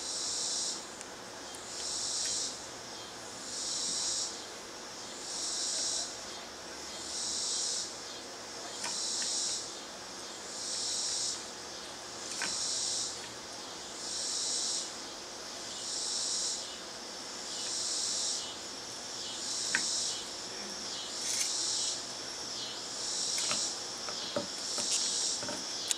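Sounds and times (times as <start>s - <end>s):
insect calling in high bursts: 1.6s - 6.2s, 8.9s - 25.9s.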